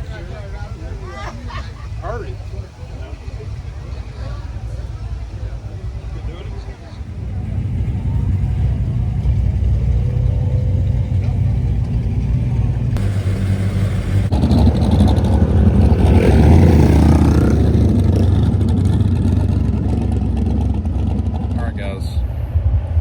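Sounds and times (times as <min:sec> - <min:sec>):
car engine revving: 0:02.4 - 0:23.0.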